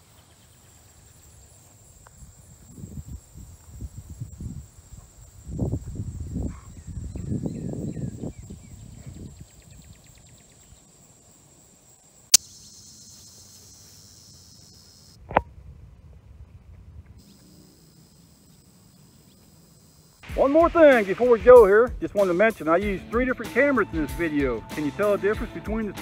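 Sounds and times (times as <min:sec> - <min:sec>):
crickets and insects droning: 0:00.0 - 0:25.9.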